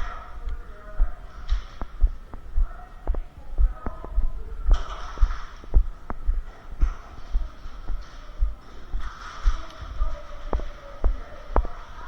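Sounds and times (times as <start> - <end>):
footsteps thudding: 0.0 - 11.8.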